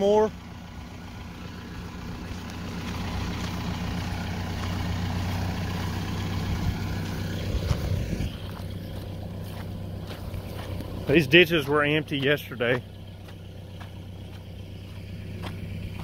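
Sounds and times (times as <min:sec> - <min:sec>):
diesel engine pulling under load: 0:00.0 - 0:16.0.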